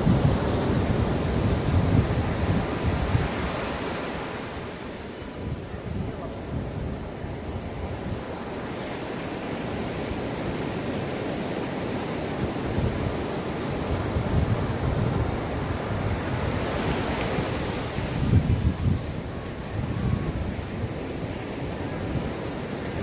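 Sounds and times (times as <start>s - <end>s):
sea waves washing onto shore: 0.0s - 23.0s.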